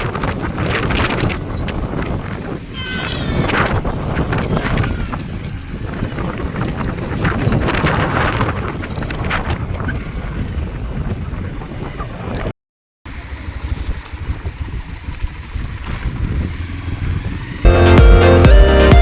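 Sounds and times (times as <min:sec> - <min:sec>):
wind buffeting microphone: 0:00.0 - 0:12.5, 0:13.3 - 0:17.7.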